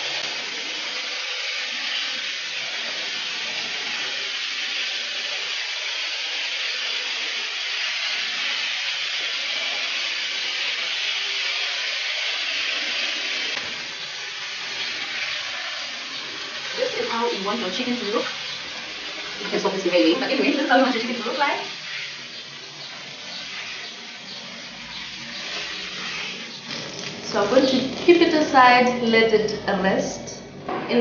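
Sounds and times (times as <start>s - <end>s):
chicken sizzling in frying pan: 0.0s - 29.0s.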